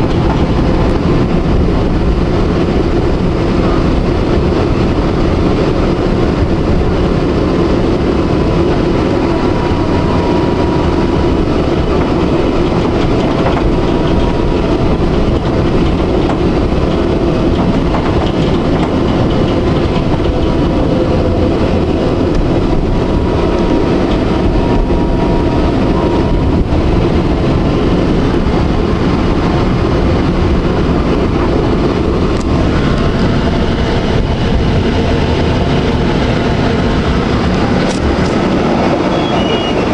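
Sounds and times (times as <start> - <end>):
tram wheels rumbling: 0.0 - 39.9.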